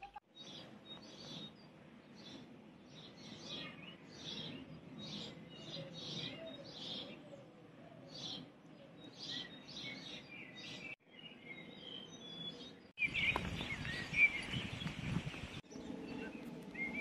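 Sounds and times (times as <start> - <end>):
faint outdoor background noise: 0.0 - 17.0
small birds chirping: 0.0 - 17.0.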